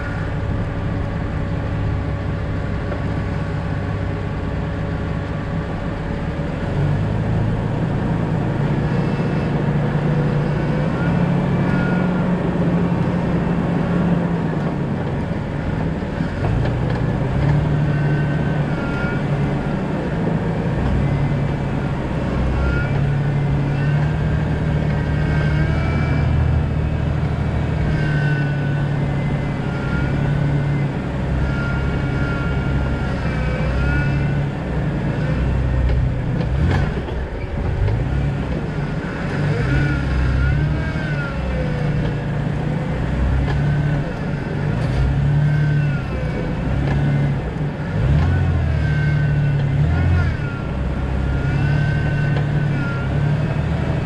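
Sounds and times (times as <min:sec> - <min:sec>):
car engine driving: 0:00.0 - 0:54.0
road noise: 0:00.0 - 0:54.0.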